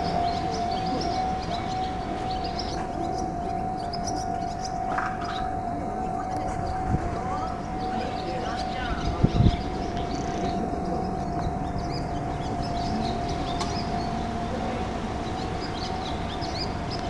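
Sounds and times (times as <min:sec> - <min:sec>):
high electronic tone: 0:00.0 - 0:17.0
small birds chirping: 0:00.0 - 0:17.0
traffic rumble: 0:00.0 - 0:17.0
train approaching: 0:00.0 - 0:17.0.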